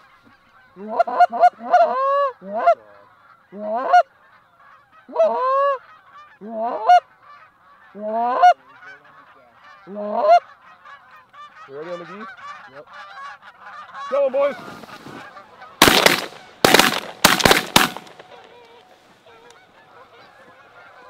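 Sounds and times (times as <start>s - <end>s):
flock of geese calling: 0.0s - 21.0s
goose honking: 0.0s - 21.0s.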